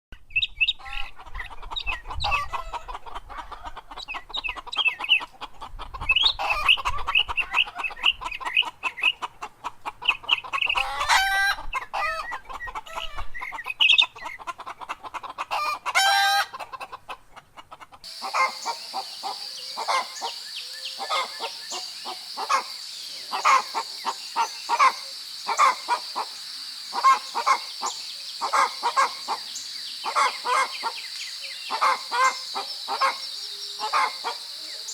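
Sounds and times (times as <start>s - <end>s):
chickens clucking: 0.8s - 34.9s.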